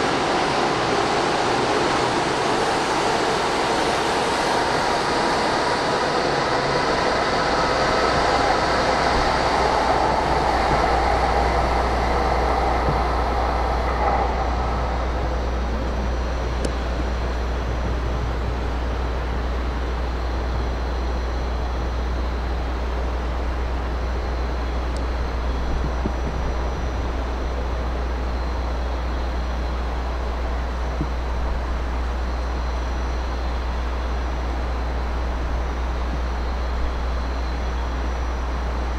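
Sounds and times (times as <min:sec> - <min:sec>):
train running rumble: 0:00.0 - 0:38.9.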